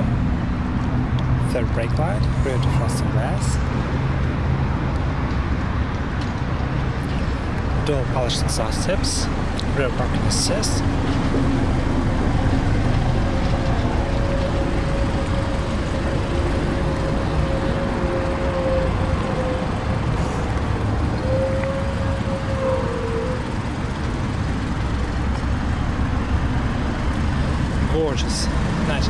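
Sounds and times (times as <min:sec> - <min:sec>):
car exhaust idling: 0:00.0 - 0:29.0.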